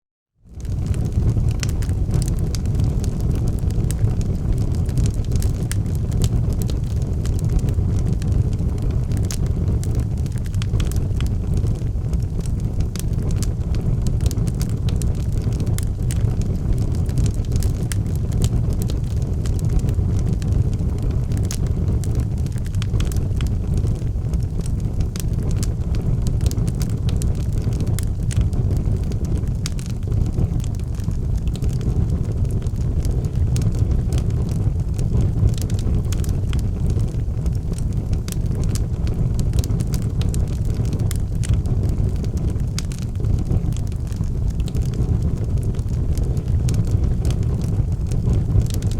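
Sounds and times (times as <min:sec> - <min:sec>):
burning wood crackling and popping: 0:00.4 - 0:48.9
fire flames rumbling: 0:00.4 - 0:48.9.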